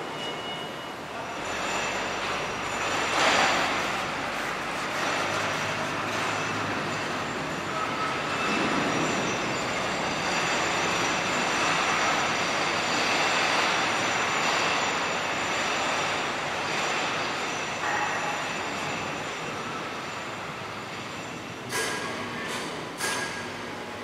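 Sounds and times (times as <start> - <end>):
train running: 0.0 - 24.0.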